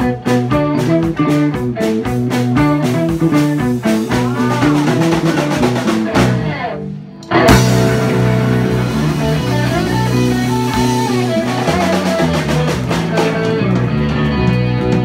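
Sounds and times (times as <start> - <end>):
lead guitar line sliding: 0.0 - 15.0
live rock band playing: 0.0 - 15.0.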